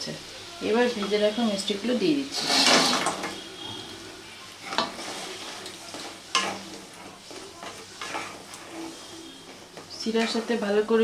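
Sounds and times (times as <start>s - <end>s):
syrup sizzling: 0.0s - 11.0s
spatula scraping a pan: 0.8s - 11.0s.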